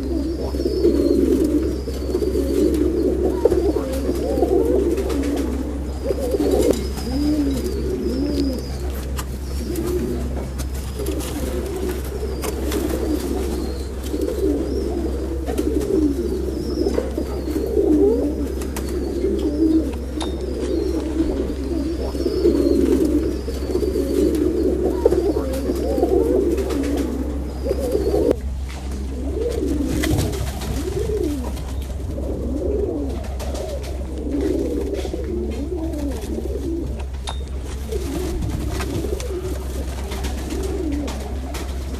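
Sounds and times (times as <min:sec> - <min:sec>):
pigeons cooing: 0:00.0 - 0:41.9
steady low hum: 0:00.0 - 0:41.9.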